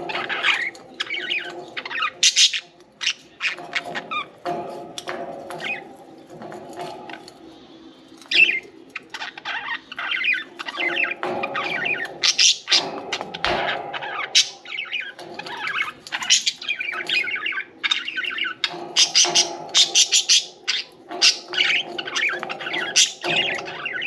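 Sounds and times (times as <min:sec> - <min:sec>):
budgerigars chirping: 0:00.0 - 0:04.3, 0:08.3 - 0:24.0.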